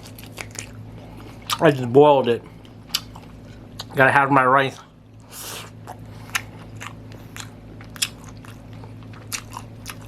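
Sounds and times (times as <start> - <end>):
person chewing food: 0.0 - 1.8, 2.5 - 4.0, 5.1 - 10.0.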